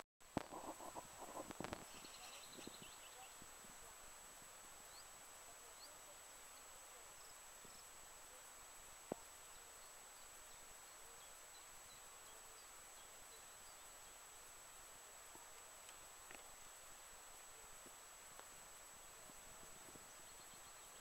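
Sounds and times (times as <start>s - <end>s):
faint high chirps: 0.6s - 4.0s, 4.7s - 16.8s, 19.1s - 21.0s.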